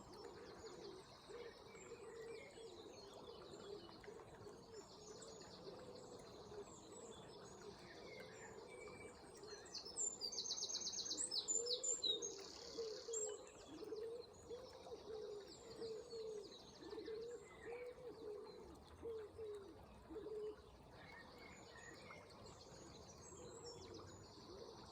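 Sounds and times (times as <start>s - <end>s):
flowing water: 0.0s - 24.9s
low bird cooing call: 0.0s - 24.9s.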